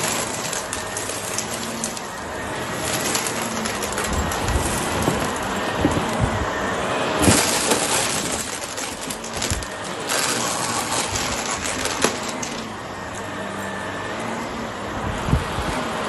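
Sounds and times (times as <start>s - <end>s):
debris rattling through vacuum hose: 0.0s - 13.3s
vacuum cleaner running over carpet: 0.0s - 16.0s.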